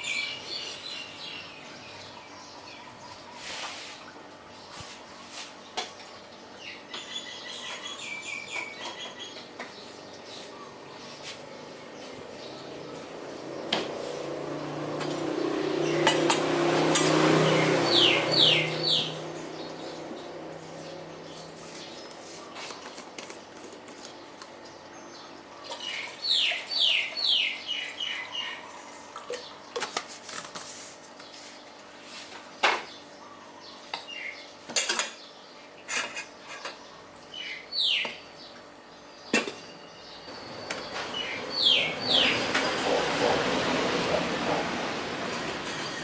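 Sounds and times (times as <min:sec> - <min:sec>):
birds chirping: 0:00.0 - 0:30.0, 0:30.9 - 0:46.0.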